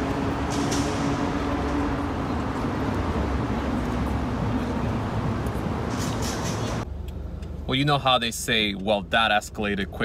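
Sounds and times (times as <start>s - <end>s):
low rumble of vehicles: 0.0s - 10.0s.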